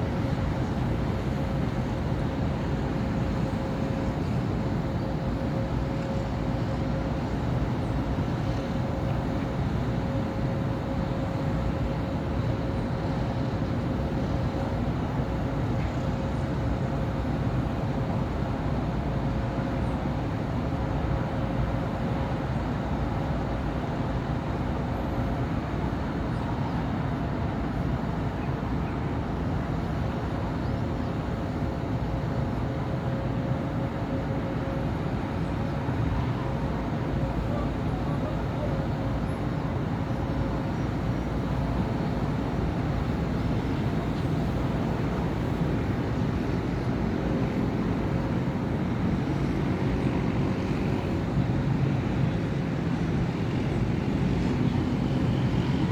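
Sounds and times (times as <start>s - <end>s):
busy street traffic rumble: 0.0s - 55.9s.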